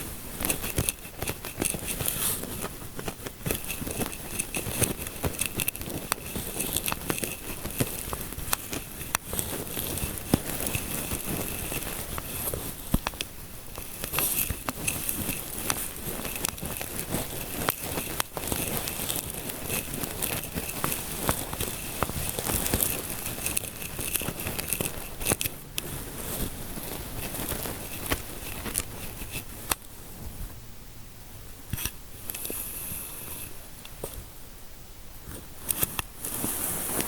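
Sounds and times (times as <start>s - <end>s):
fingertips scratching and rubbing: 0.0s - 29.9s, 31.8s - 34.2s, 35.3s - 37.0s.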